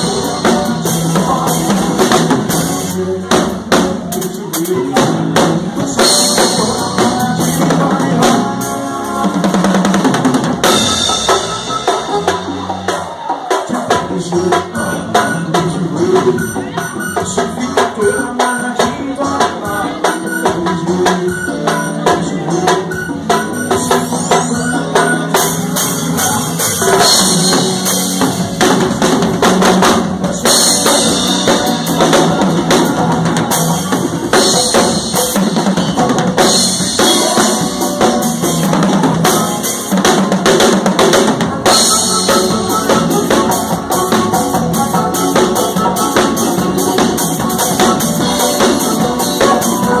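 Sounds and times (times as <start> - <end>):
band instruments: 0.0 - 50.0.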